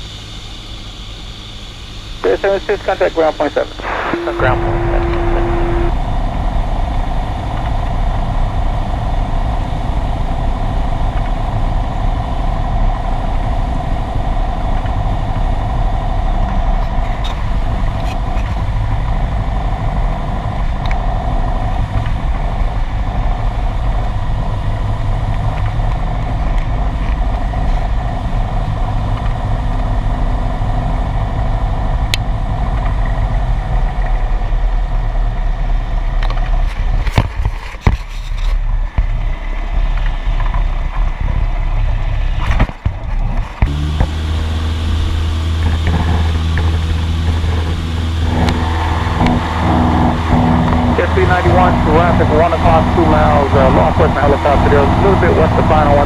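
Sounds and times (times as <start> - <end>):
propeller engine droning: 0.0 - 56.0.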